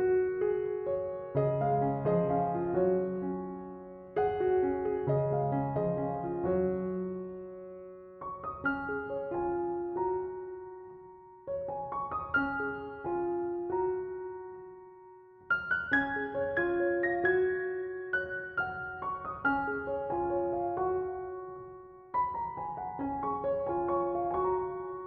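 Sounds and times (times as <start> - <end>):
slow gentle piano music: 0.0 - 25.0.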